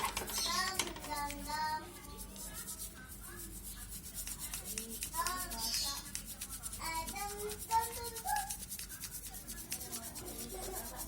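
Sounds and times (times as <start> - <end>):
surrounding speech: 0.0 - 11.0.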